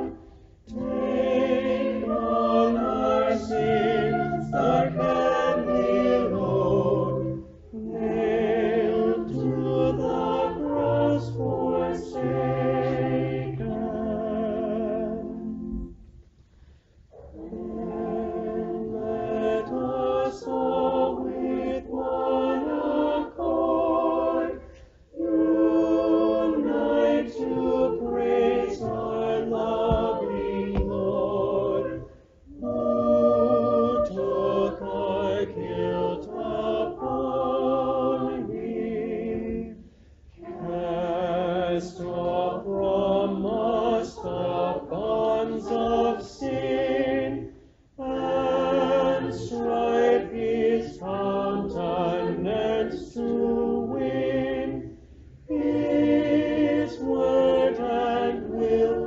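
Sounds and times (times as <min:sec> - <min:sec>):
church choir singing: 0:00.0 - 0:16.1, 0:17.0 - 0:59.0.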